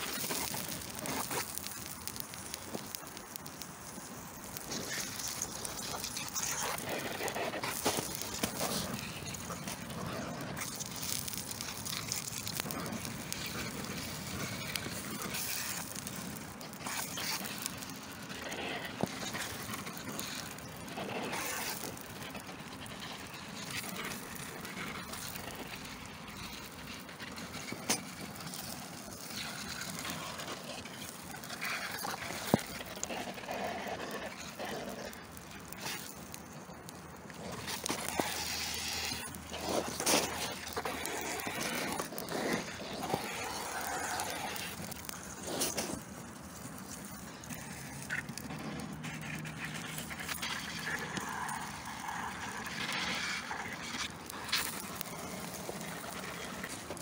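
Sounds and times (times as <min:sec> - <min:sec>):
steady background hiss: 0:00.0 - 0:49.5
burning cardboard crackling: 0:00.0 - 0:57.0.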